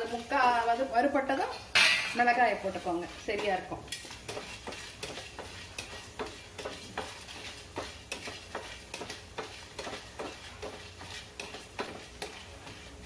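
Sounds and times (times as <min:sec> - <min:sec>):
spatula scraping a steel pan: 0:01.8 - 0:13.0.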